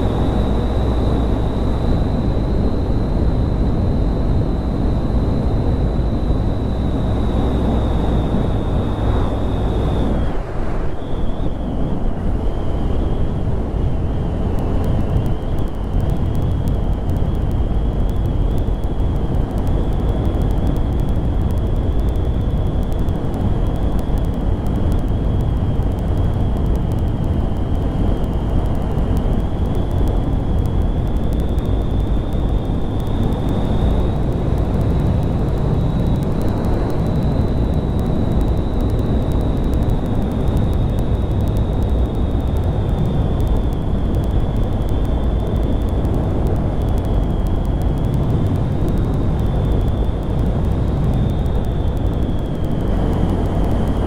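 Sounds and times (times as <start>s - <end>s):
thin high whine: 0.0s - 54.0s
wind rush on microphone: 0.0s - 54.0s.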